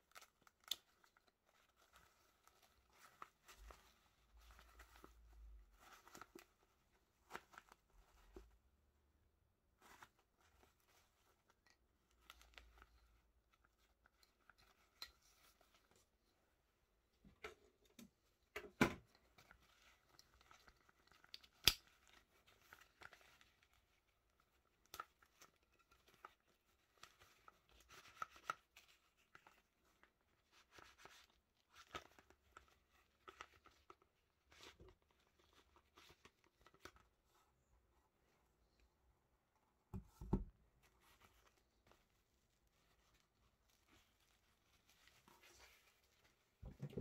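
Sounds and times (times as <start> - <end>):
fabric sheath rustling and scraping: 0.0 - 8.8, 9.5 - 38.9, 39.6 - 47.0.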